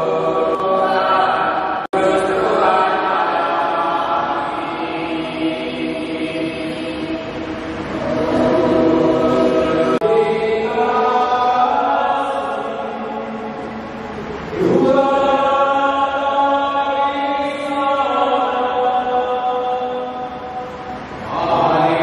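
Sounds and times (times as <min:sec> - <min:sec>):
voices singing a hymn: 0:00.0 - 0:22.0.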